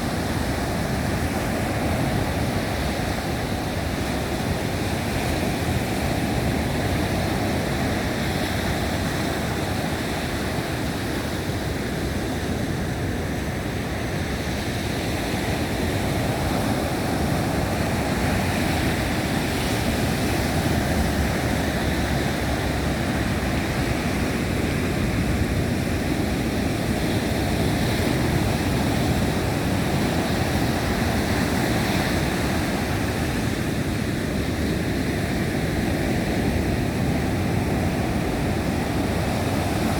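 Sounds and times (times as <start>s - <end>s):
surf breaking roar: 0.0s - 39.9s
wind on microphone rumble: 0.0s - 39.9s.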